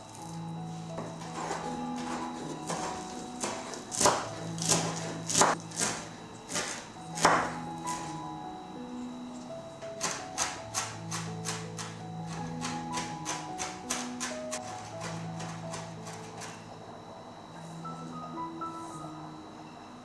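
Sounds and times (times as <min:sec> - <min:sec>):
background music with held notes: 0:00.0 - 0:20.0.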